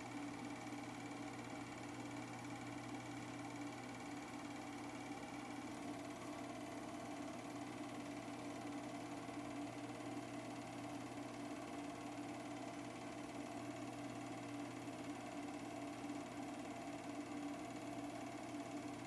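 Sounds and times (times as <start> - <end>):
film projector running: 0.0 - 19.0.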